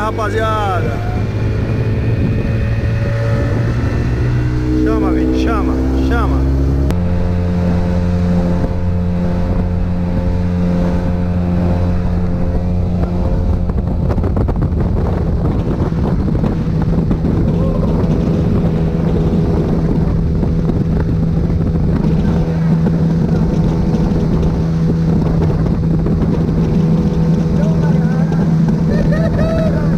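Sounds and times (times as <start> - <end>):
outboard motor running: 0.0 - 29.9
wind rushing over microphone: 0.0 - 29.9.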